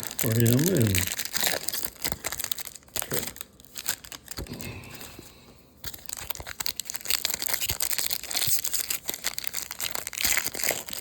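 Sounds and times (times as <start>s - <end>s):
card pack wrappers crinkling and tearing: 0.0s - 5.2s, 5.8s - 11.0s.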